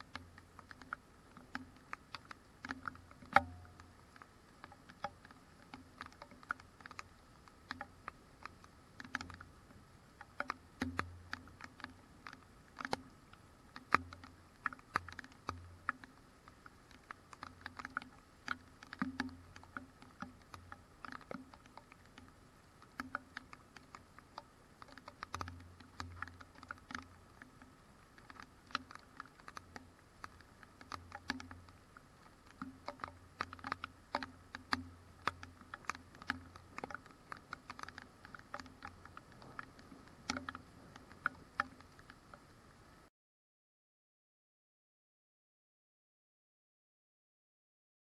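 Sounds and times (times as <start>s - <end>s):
raindrops tapping: 0.0s - 42.5s
faint low hum: 0.0s - 43.1s.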